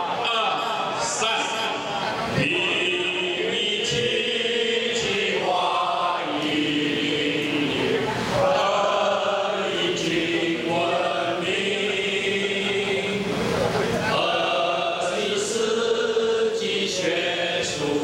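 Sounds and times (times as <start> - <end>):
crowd singing in unison: 0.0 - 18.0.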